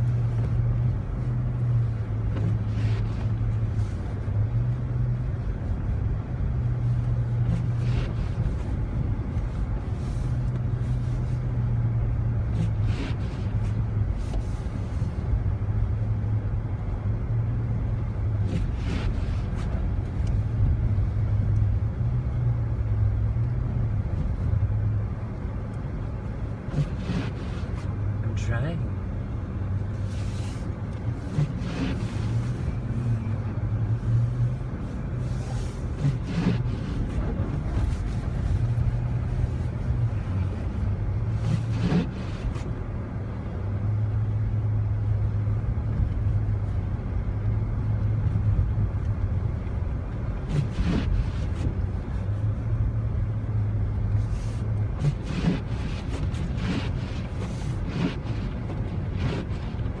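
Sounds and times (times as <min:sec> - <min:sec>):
car engine and road drone: 0:00.0 - 1:00.0.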